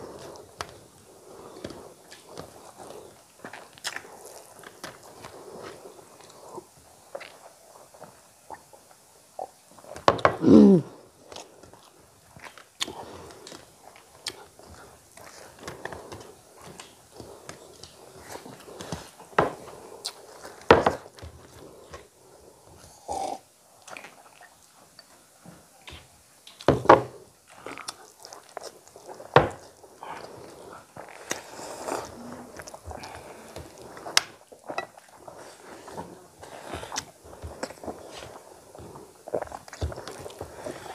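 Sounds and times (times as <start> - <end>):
people chewing and lip smacking: 0.0 - 40.9.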